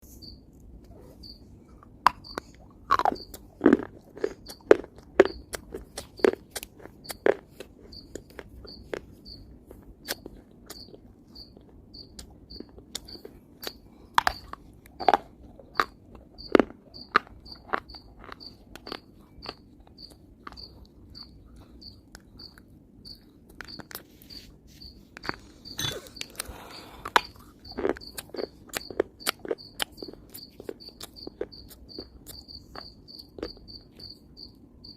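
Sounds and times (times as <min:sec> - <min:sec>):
crunchy chewing of hard clay: 0:00.1 - 0:34.9
cricket chirping: 0:00.2 - 0:01.5, 0:02.1 - 0:06.4, 0:07.0 - 0:34.9.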